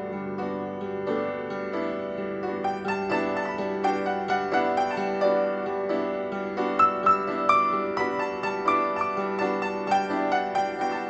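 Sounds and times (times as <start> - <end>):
keyboard melody: 0.0 - 11.0.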